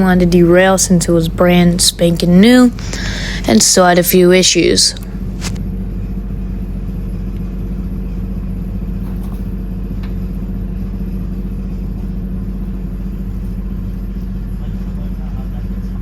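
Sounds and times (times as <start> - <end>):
miniature locomotive engine droning: 0.0 - 16.0.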